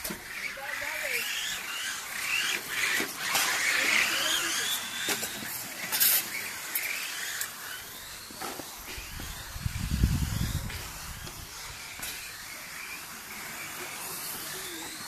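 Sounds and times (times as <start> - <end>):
rc car motor whine: 0.0 - 15.0.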